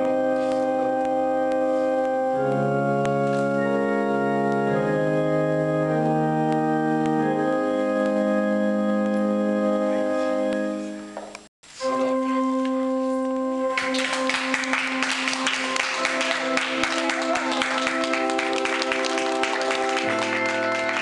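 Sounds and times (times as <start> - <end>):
organ playing slow chords: 0.0 - 11.2, 11.8 - 21.0.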